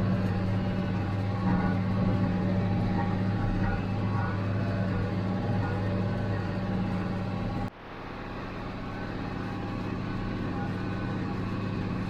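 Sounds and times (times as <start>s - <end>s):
diesel tractor engine under load: 0.0s - 12.0s.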